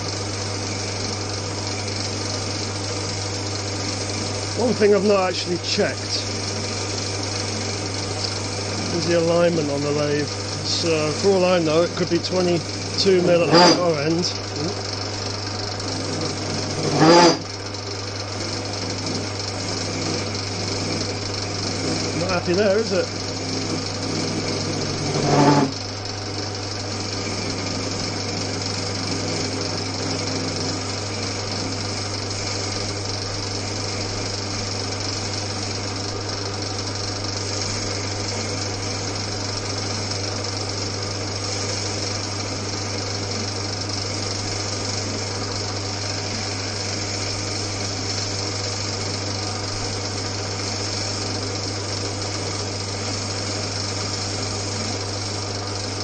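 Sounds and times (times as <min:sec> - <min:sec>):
metal lathe whirring: 0:00.0 - 0:56.0.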